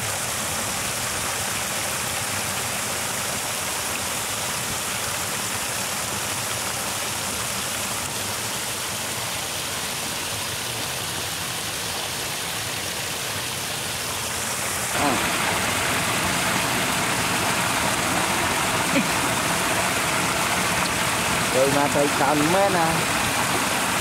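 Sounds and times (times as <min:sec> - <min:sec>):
water running through channel: 0:00.0 - 0:24.0.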